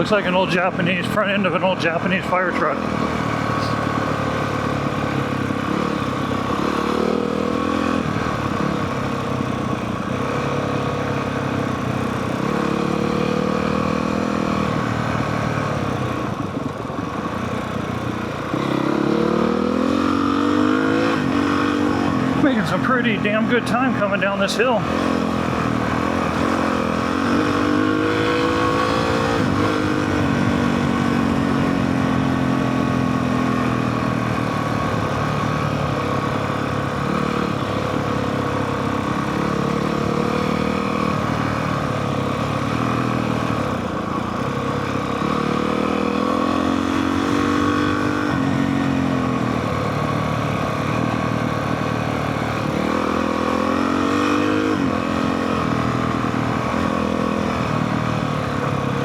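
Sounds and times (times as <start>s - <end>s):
dirt bike engine revving: 0.0s - 9.2s, 10.1s - 15.7s, 18.4s - 50.0s, 50.6s - 58.7s.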